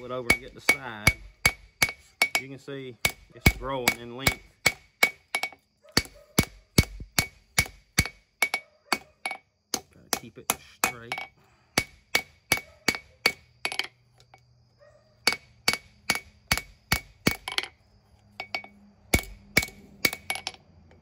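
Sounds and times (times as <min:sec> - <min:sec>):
hammer striking metal on anvil: 0:00.0 - 0:13.9, 0:15.2 - 0:17.7, 0:18.4 - 0:20.6.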